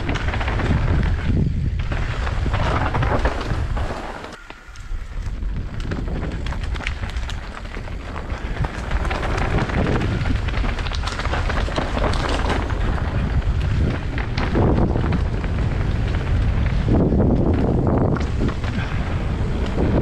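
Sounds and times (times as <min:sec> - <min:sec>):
bike rattling and clicking: 0:00.0 - 0:20.0
tyres on dirt: 0:00.0 - 0:20.0
wind buffeting microphone: 0:00.0 - 0:20.0.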